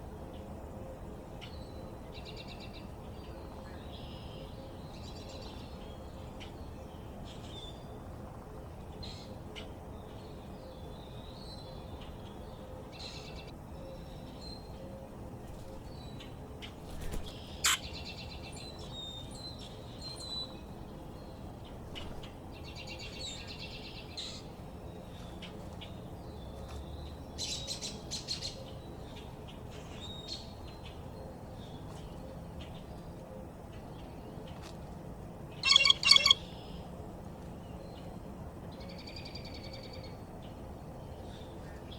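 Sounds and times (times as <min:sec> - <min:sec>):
low background hum: 0:00.0 - 0:41.9
songbirds chirping: 0:00.0 - 0:41.9.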